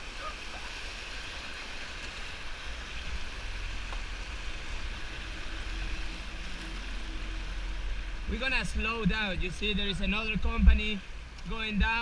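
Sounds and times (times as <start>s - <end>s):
creek rapids rushing: 0.0s - 12.0s
low water rumble: 0.0s - 12.0s.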